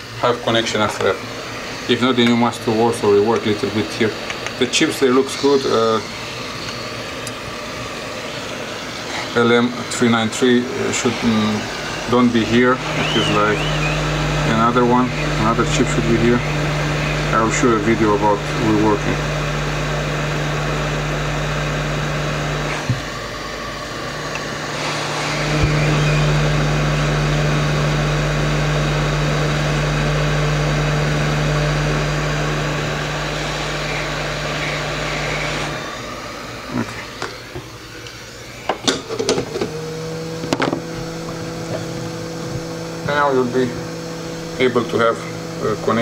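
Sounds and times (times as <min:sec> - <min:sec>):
small electric fan humming: 0:00.0 - 0:46.0.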